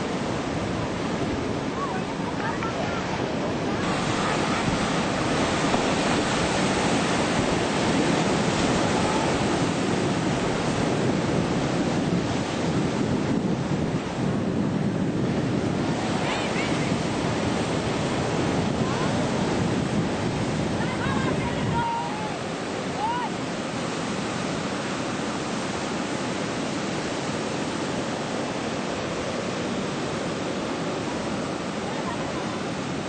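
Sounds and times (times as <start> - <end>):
ocean surf breaking: 0.0 - 33.0
wind buffeting microphone: 0.0 - 33.0.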